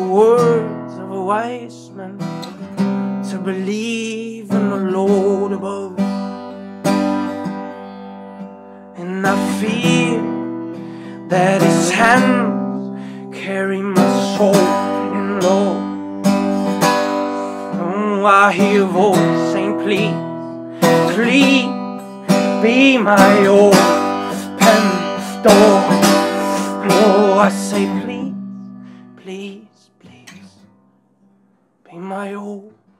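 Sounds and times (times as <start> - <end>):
man singing: 0.0 - 2.4, 3.2 - 6.3, 8.9 - 30.6, 31.9 - 32.8
acoustic guitar strummed: 0.0 - 32.9.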